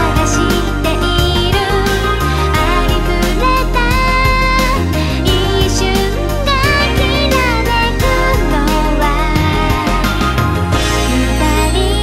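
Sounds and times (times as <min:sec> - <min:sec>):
band backing music: 0:00.0 - 0:12.0
woman singing pop ballad: 0:00.0 - 0:12.0.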